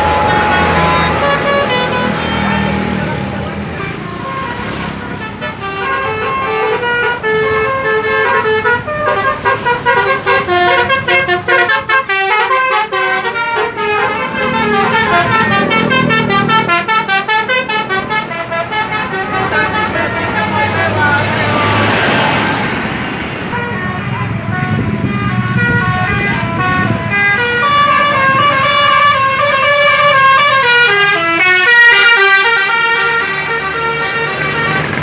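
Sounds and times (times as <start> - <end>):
multi-tone musical bus horn: 0.0 - 35.0.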